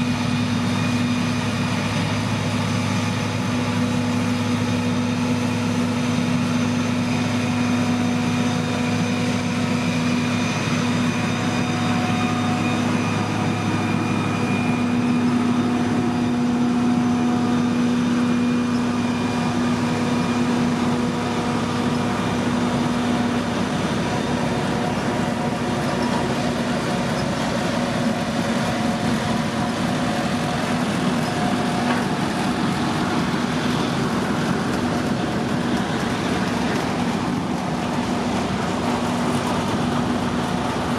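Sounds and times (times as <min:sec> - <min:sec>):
heavy machinery engine humming: 0:00.0 - 0:40.9.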